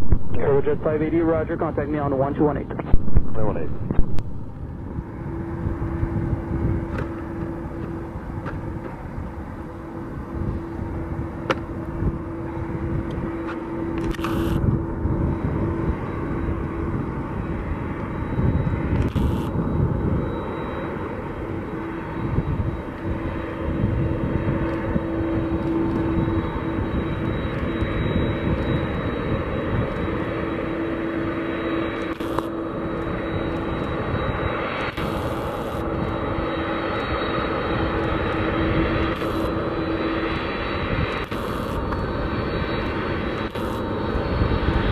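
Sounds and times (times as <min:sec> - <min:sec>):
jet engines droning: 0:00.0 - 0:44.9.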